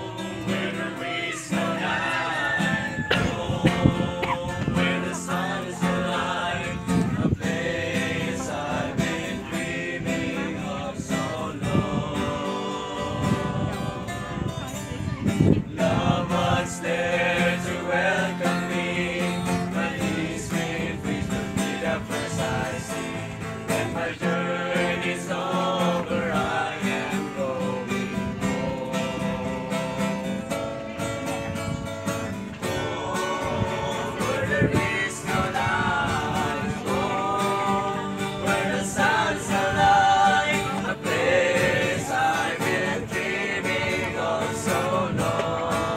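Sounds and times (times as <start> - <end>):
group of young men singing: 0.0 - 31.4, 32.2 - 45.9.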